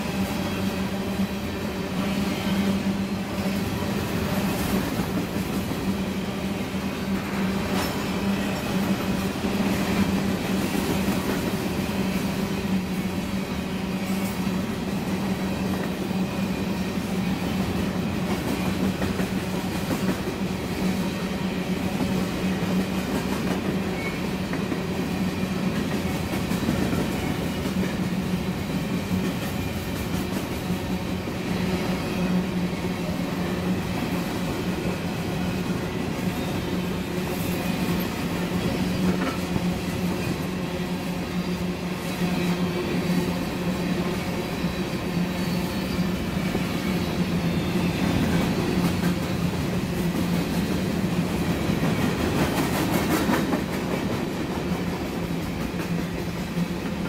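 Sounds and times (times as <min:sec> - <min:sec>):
freight train wheels clattering: 0:06.7 - 0:13.2, 0:14.0 - 0:44.4, 0:45.1 - 0:57.0.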